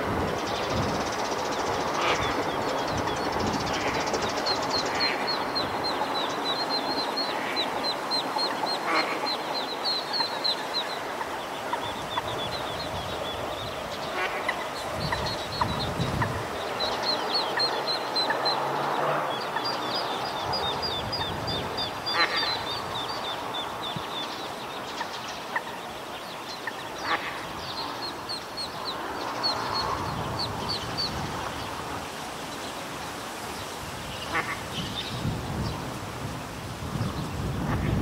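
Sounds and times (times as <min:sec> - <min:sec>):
ducklings peeping: 0:00.0 - 0:32.8, 0:34.2 - 0:35.9.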